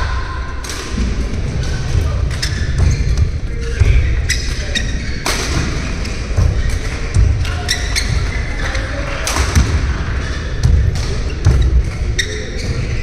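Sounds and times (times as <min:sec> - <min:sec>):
shoes thudding and squeaking: 0:01.6 - 0:08.9, 0:09.5 - 0:13.0.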